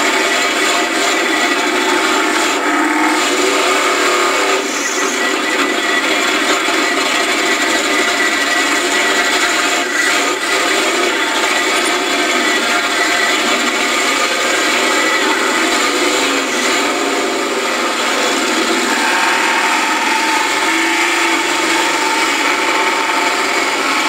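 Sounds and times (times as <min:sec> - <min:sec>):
truck engine droning: 0:00.0 - 0:24.0.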